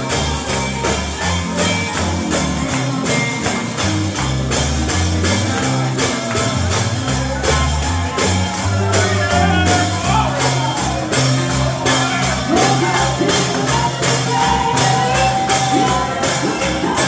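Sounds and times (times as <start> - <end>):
bass notes: 0.0 - 17.0
steady beat: 0.0 - 17.0
tambourine shaken: 0.0 - 17.0.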